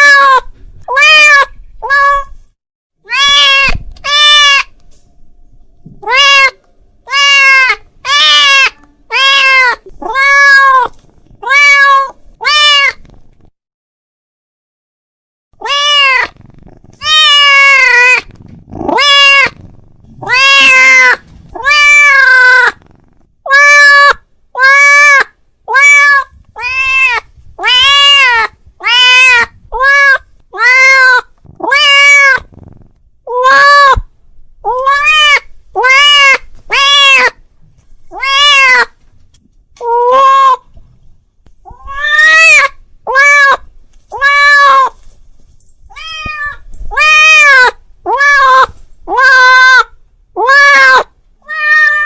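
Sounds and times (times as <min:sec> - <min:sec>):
cat meowing loudly: 0:00.0 - 0:02.4, 0:03.0 - 0:04.8, 0:06.0 - 0:13.1, 0:15.6 - 0:16.4, 0:17.0 - 0:22.8, 0:23.4 - 0:32.5, 0:33.3 - 0:37.4, 0:38.1 - 0:39.0, 0:39.8 - 0:40.7, 0:41.7 - 0:45.0, 0:45.9 - 0:52.0.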